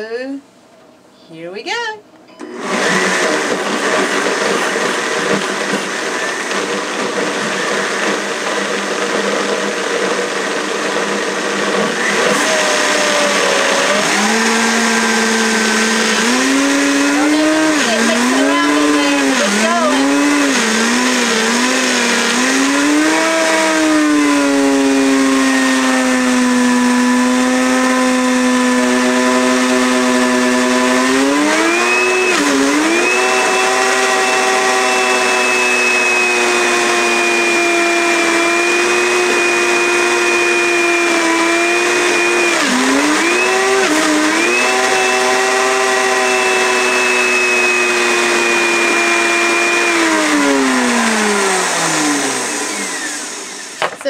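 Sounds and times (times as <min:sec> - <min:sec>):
blender motor whine: 0:02.4 - 0:54.0.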